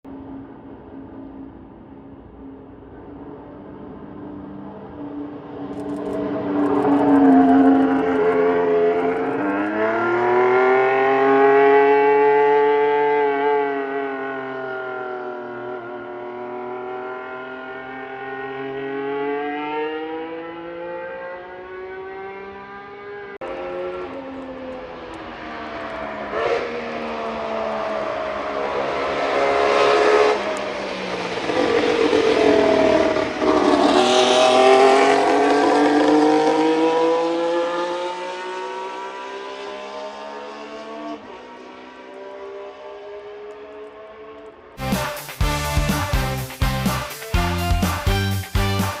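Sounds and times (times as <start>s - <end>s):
racing car engine at high revs: 3.7s - 44.8s.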